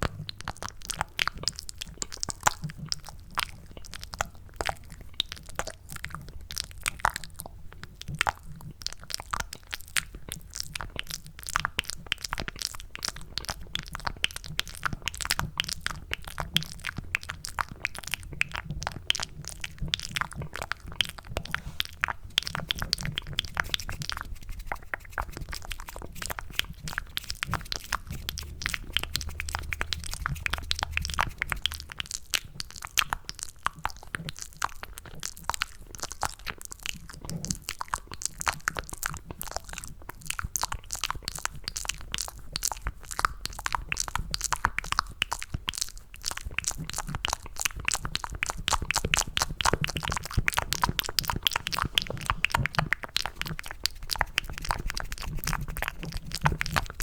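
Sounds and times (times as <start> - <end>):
tongue and lip clicks: 0.0 - 57.0.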